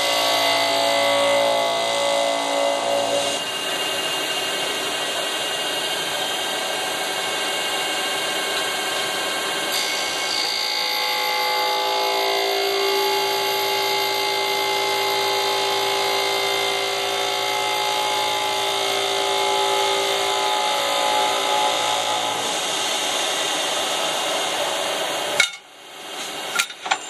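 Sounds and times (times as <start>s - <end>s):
machine whine: 0.0s - 27.0s.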